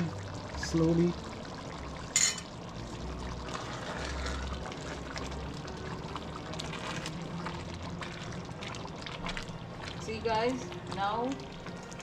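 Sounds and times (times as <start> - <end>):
sauce bubbling in a pot: 0.0 - 12.0.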